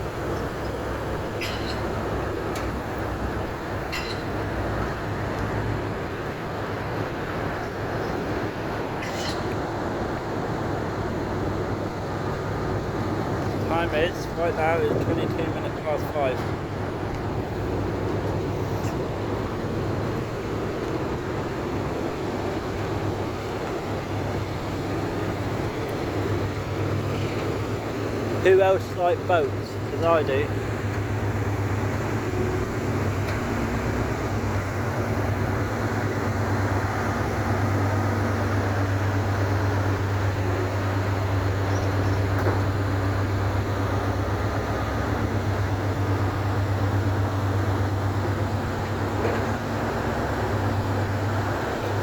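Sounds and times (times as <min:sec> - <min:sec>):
ferry engines droning: 0:00.0 - 0:52.0.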